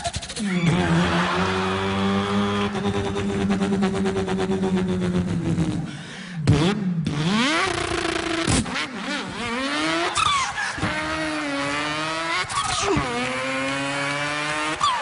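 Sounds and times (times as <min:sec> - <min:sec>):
man imitating car engine: 0:00.0 - 0:15.0.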